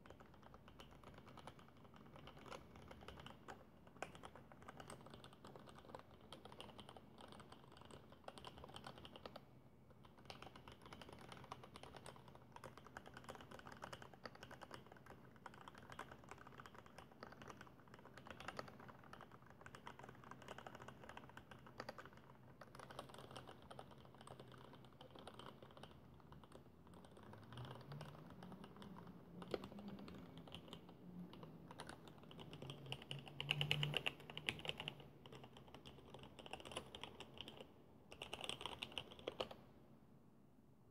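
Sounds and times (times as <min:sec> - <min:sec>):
mechanical keyboard typing: 0:00.0 - 0:09.4, 0:10.0 - 0:39.6.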